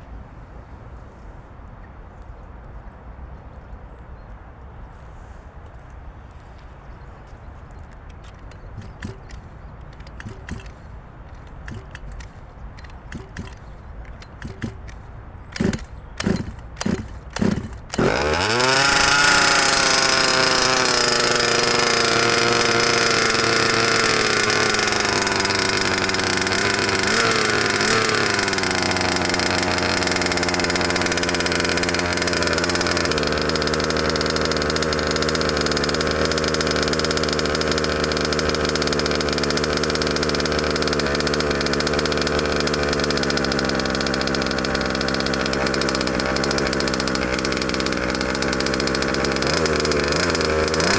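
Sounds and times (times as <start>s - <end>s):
two-stroke engine cranking and running: 8.0s - 50.9s.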